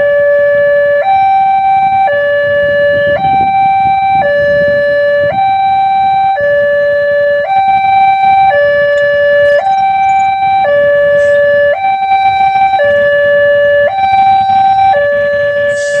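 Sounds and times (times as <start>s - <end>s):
level-crossing warning siren: 0.0s - 16.0s.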